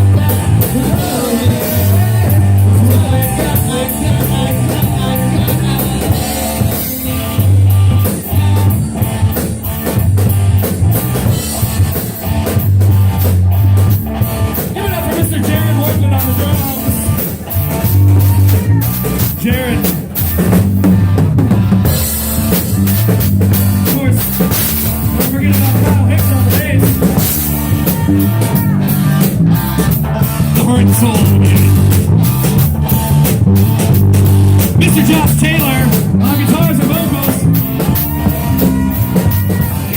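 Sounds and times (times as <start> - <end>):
drum kit: 0.0 - 39.9
low bass line: 0.0 - 39.9
rock band playing: 0.0 - 39.9.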